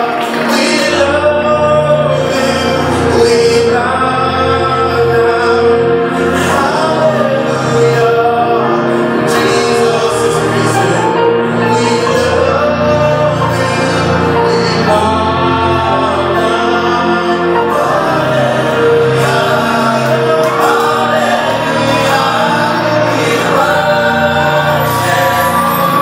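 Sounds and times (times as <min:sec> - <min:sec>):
choir singing gospel song: 0:00.0 - 0:26.0
instrumental backing: 0:00.0 - 0:26.0.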